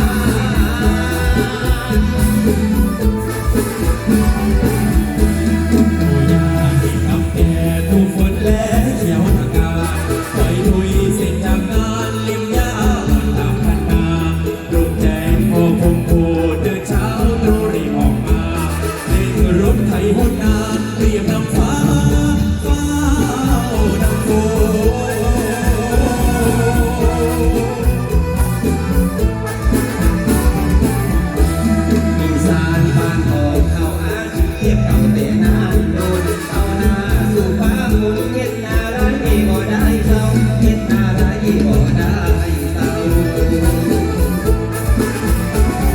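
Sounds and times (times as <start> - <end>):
band playing amplified music: 0.0 - 45.9
fast drum beat: 0.0 - 45.9
person singing: 0.0 - 45.9.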